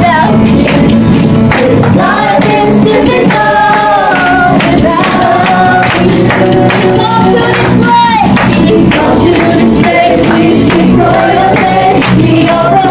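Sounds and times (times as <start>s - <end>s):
musical accompaniment: 0.0s - 12.9s
several voices singing: 0.0s - 12.9s.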